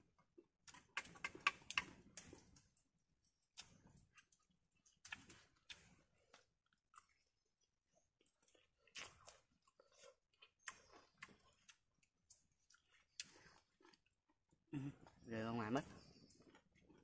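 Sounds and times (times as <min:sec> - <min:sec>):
person chewing with soft crunches: 0:00.0 - 0:17.0.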